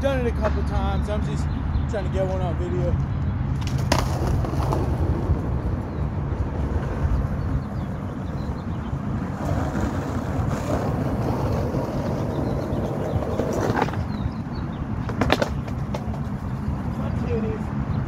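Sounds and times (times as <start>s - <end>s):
wind buffeting microphone: 0.6s - 18.0s.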